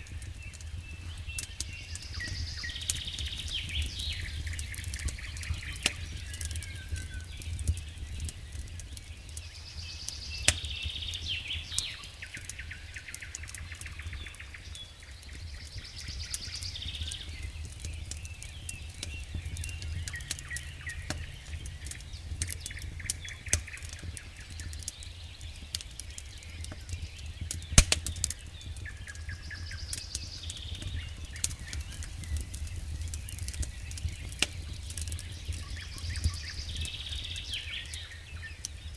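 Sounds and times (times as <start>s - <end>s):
birds singing: 0.0s - 38.9s
campfire crackling and popping: 0.0s - 38.9s.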